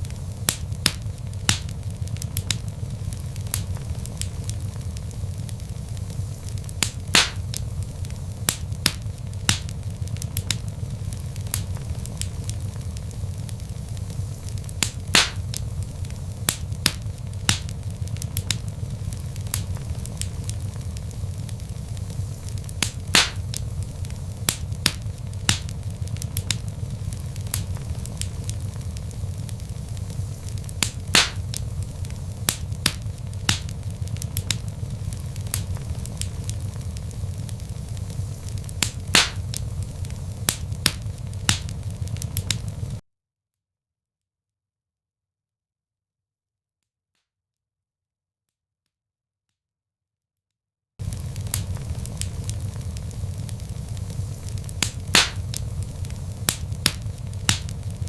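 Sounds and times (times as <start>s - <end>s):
logs burning in a fireplace: 0.0s - 43.0s, 51.0s - 58.0s.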